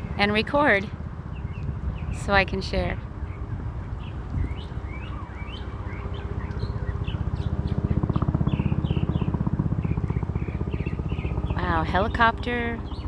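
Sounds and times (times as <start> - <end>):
songbird chirping: 0.0 - 11.6
helicopter rotor beating: 0.0 - 13.0.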